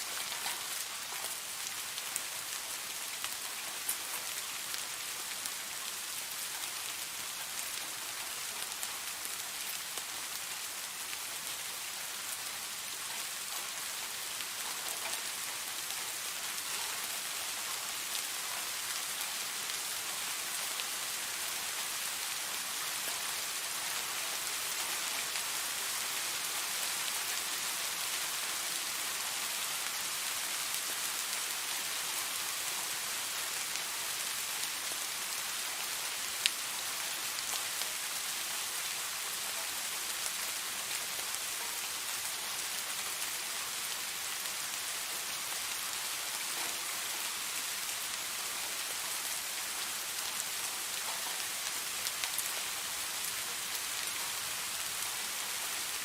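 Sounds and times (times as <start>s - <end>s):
raindrops pattering on a surface: 0.0s - 56.0s
steady rain hiss: 0.0s - 56.0s.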